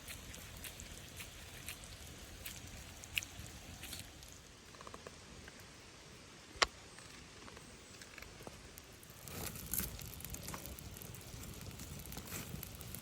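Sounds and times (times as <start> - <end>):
campfire crackling and popping: 0.0 - 5.6, 7.4 - 13.0.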